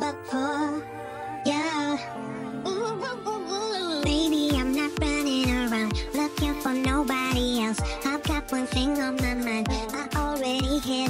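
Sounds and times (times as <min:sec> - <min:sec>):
pop song: 0:00.0 - 0:11.0.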